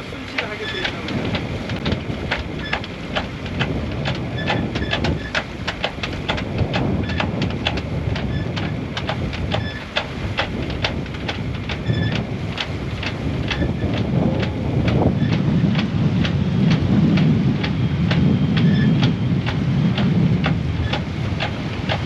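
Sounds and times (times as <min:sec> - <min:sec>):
yacht low rumble: 0:00.0 - 0:22.0
fast irregular rattling clicks: 0:00.3 - 0:22.0.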